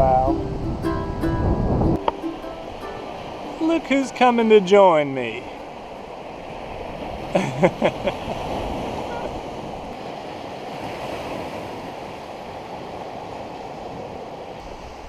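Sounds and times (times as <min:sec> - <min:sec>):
small waves washing on beach: 0:02.0 - 0:15.0.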